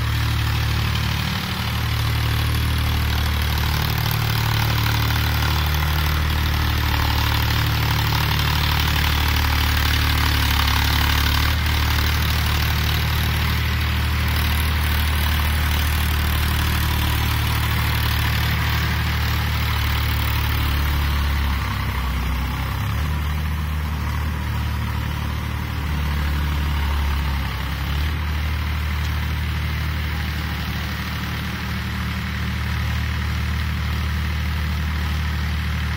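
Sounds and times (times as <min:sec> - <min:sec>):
diesel tractor engine running: 0:00.0 - 0:35.9.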